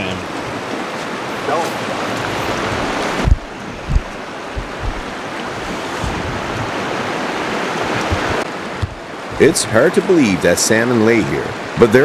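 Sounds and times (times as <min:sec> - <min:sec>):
river rushing over rocks: 0:00.0 - 0:12.0
wind buffeting microphone: 0:00.2 - 0:09.9.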